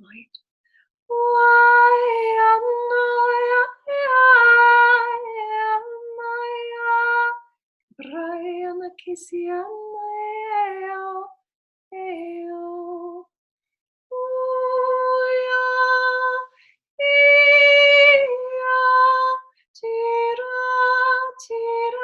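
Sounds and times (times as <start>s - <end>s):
woman singing wordless tones: 1.1s - 13.3s, 14.1s - 22.0s.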